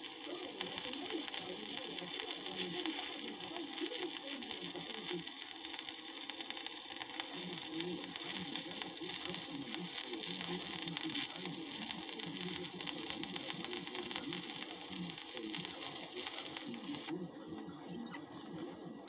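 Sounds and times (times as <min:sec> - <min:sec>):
welding arc crackling and hissing: 0:00.0 - 0:19.0.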